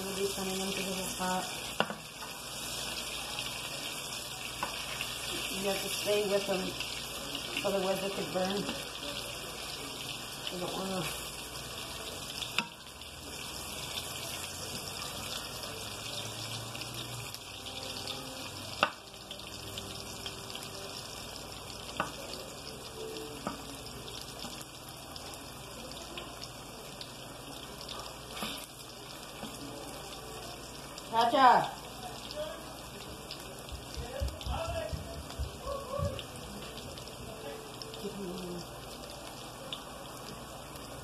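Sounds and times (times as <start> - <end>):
plantain frying in a pan: 0.0 - 41.0.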